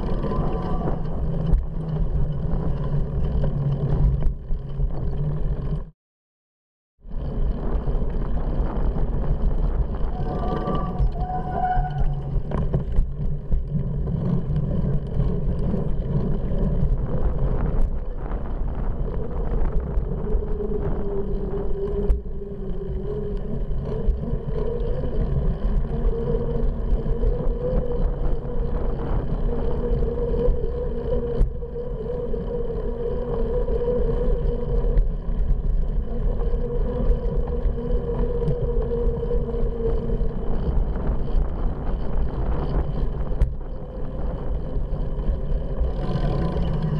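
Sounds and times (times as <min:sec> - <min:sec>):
wavering hum: 0:00.0 - 0:05.8, 0:07.1 - 0:46.9
small rattles and clicks: 0:00.0 - 0:05.9, 0:07.0 - 0:46.9
tyres and wind rumble: 0:00.0 - 0:05.9, 0:07.0 - 0:46.9.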